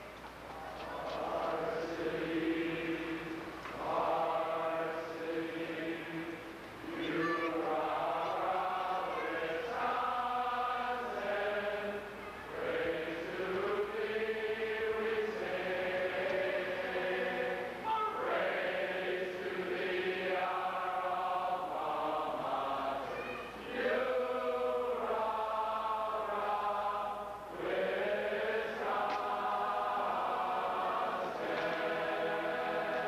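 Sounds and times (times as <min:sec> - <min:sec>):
group singing together: 0:01.0 - 0:33.0.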